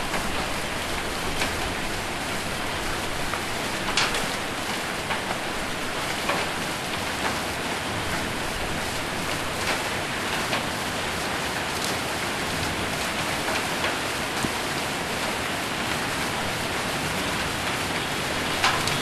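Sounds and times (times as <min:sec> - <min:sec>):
hail hits: 0:00.0 - 0:19.0
heavy rain on a roof: 0:00.0 - 0:19.0.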